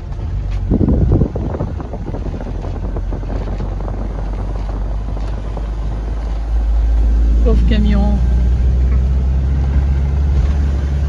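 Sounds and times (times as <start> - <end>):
van road and engine rumble: 0.0 - 11.0
wind rushing over microphone: 0.0 - 11.0.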